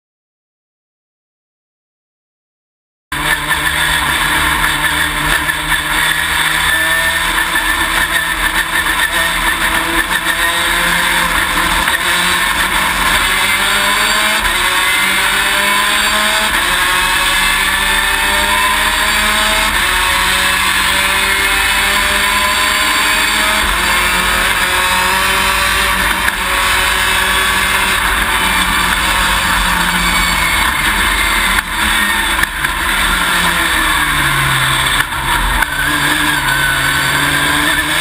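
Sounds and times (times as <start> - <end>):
race car engine running: 3.1 - 38.0.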